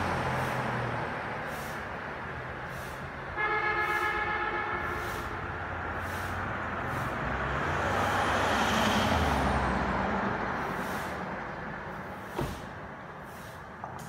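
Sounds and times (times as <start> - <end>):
vehicle driving past: 0.0 - 4.1, 4.8 - 13.6.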